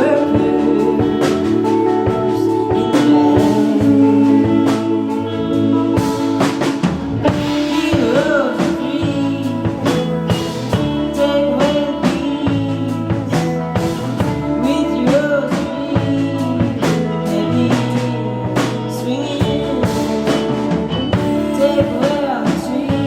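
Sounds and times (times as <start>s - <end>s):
drum kit beat: 0.0s - 23.0s
live rock band playing: 0.0s - 23.0s
person singing: 0.0s - 23.0s.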